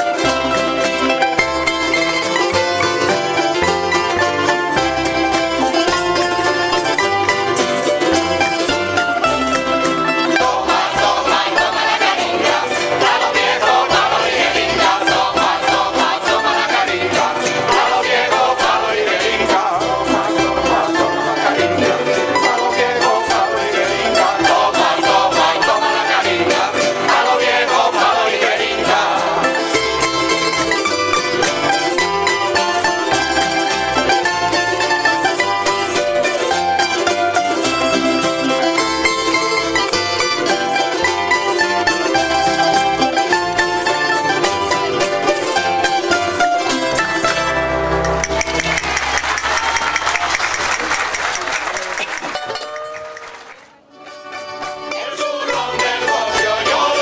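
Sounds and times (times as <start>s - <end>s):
plucked string music: 0.0s - 57.0s.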